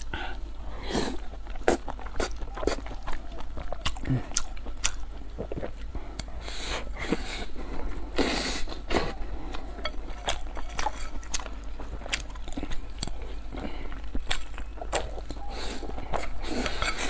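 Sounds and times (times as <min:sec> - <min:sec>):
wet chewing and slurping: 0:00.8 - 0:17.0.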